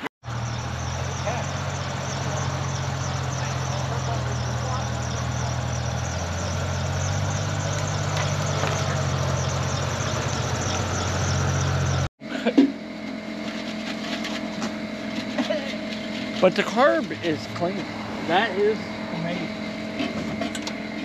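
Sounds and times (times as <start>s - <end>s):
higher-pitched hum: 0.0s - 21.0s
vehicle engine idling: 0.0s - 21.0s.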